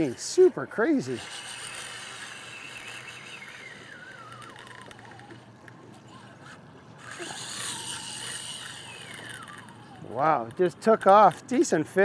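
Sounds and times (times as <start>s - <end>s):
fishing reel drag whining: 0.0s - 12.0s.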